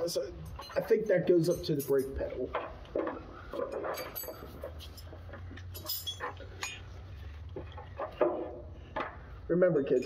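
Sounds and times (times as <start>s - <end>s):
hand tools tapping on metal: 0.4s - 9.2s.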